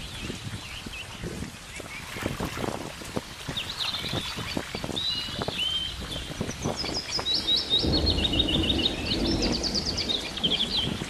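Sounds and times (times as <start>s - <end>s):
small birds singing: 0.0s - 11.0s
stream babbling over rock: 0.0s - 11.0s.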